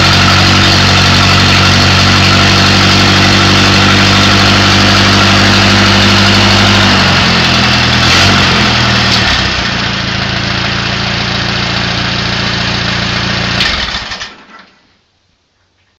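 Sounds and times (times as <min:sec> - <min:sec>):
tractor engine running: 0:00.0 - 0:14.4.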